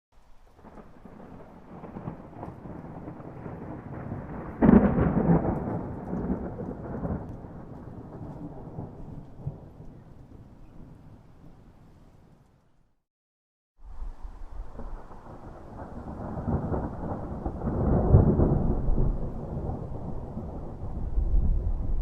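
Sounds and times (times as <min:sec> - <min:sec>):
rain falling: 0:00.2 - 0:11.8, 0:13.9 - 0:22.0
thunder rumbling and clapping: 0:00.6 - 0:10.9, 0:14.6 - 0:22.0.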